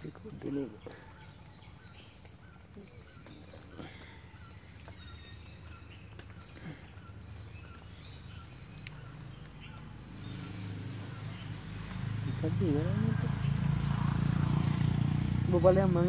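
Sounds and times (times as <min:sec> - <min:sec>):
short chirping calls: 0:00.0 - 0:15.3.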